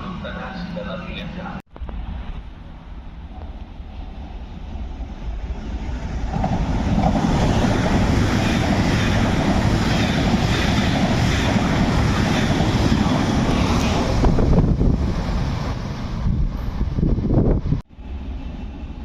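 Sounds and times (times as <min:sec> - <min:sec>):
train passing rushing noise: 0:01.8 - 0:19.0.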